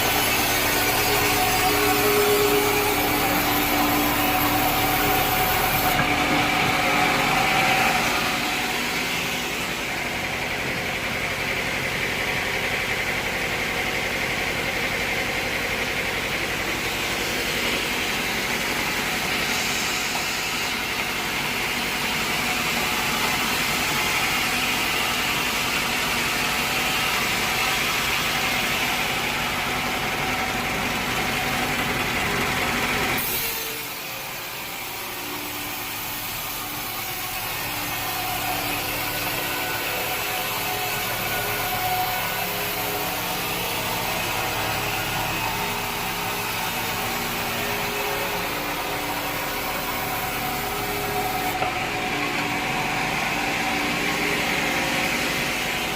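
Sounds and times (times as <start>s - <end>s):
sawmill machinery running: 0.0s - 55.9s.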